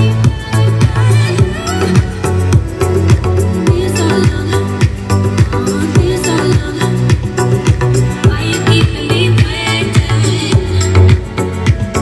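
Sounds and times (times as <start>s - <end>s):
loud music through speaker: 0.0s - 12.0s.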